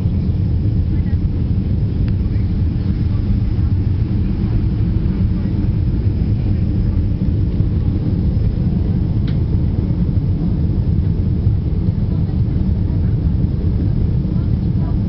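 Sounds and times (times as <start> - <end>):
airliner cabin engine noise: 0.0 - 15.0.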